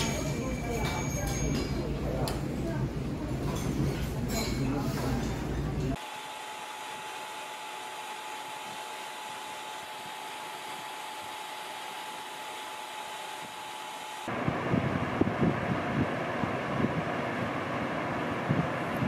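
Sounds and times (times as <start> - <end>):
fan whirring with whine: 0.0 - 19.0.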